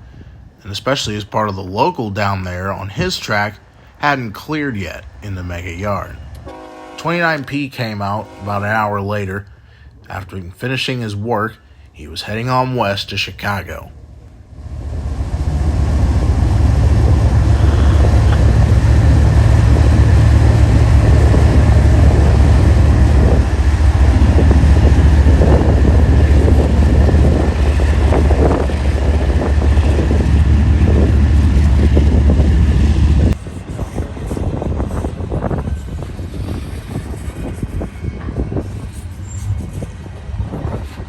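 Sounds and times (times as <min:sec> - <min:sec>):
freight train passing: 0:00.0 - 0:41.0.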